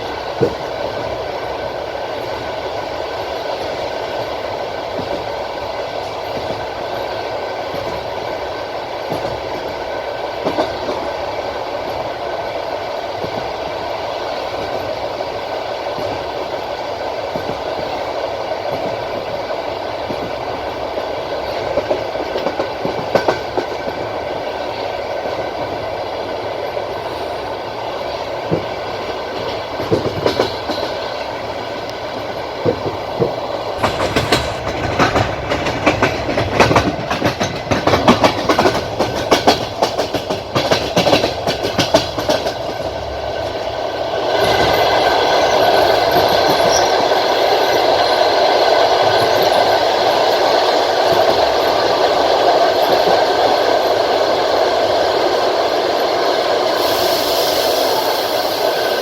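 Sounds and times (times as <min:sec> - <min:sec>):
wheels clacking over rail joints: 0:00.0 - 0:12.2, 0:15.8 - 0:27.1, 0:27.7 - 0:56.9
train wheels rolling on rails: 0:00.0 - 0:59.0.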